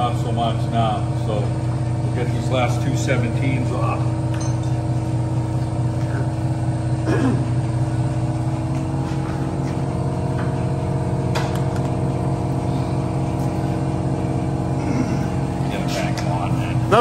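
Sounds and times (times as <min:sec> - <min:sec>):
machine drone with low hum: 0:00.0 - 0:17.0.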